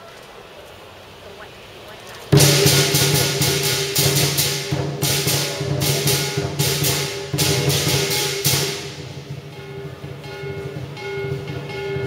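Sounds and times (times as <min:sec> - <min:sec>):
big drum beating: 0:02.2 - 0:12.0
cymbals clashing: 0:02.2 - 0:12.0.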